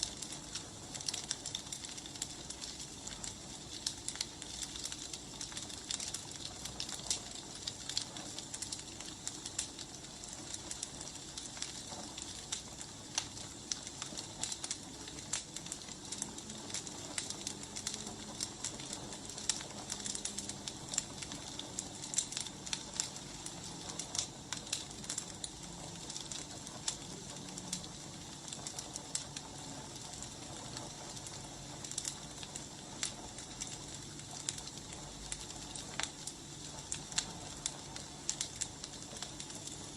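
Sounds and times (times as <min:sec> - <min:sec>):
fire hissing: 0:00.0 - 0:39.9
logs crackling and popping: 0:00.0 - 0:39.9.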